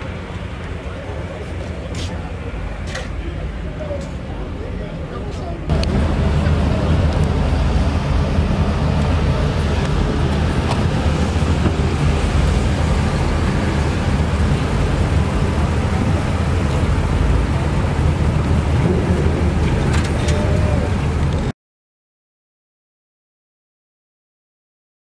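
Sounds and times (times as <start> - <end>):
car engine running at low revs: 0.0 - 21.5.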